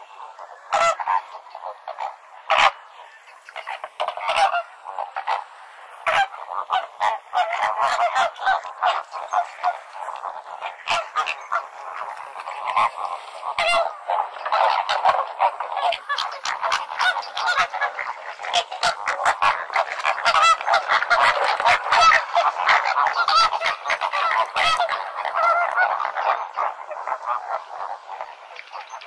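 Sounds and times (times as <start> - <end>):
flock of flamingos honking: 0.0 - 29.0.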